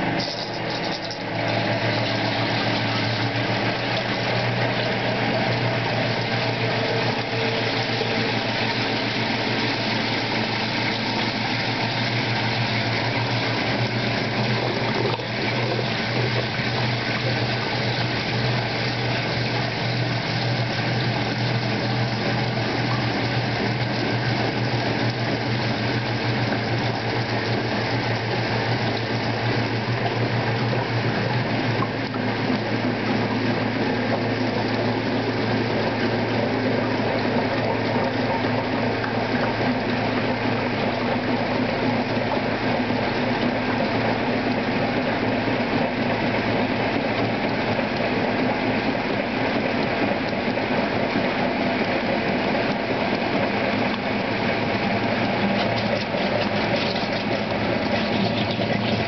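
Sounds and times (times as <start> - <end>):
pump rushing water out: 0.0 - 59.0
washer motor humming: 0.0 - 59.0.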